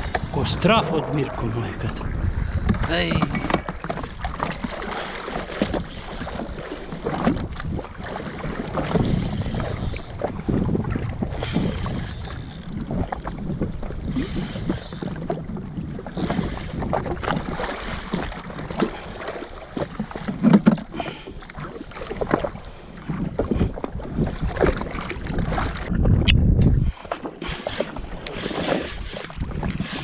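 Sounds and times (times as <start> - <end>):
water splashing against hull: 0.0 - 30.0
wind buffeting microphone: 0.0 - 30.0.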